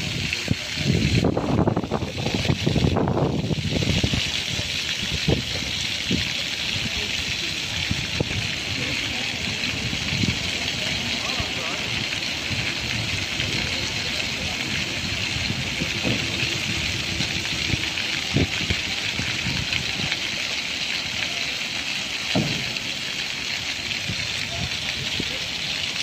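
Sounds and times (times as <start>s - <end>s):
fountain water splashing on paving: 0.0s - 26.0s.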